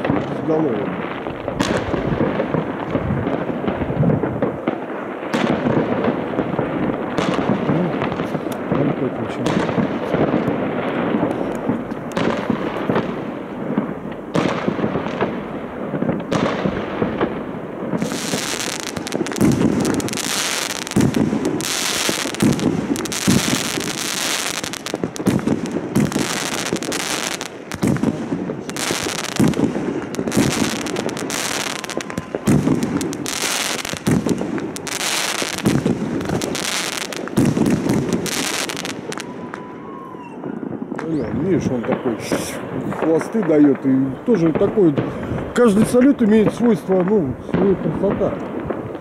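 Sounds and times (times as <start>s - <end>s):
firework bursts with crackling hiss: 0.0s - 46.6s
fireworks bangs and pops: 0.0s - 49.0s.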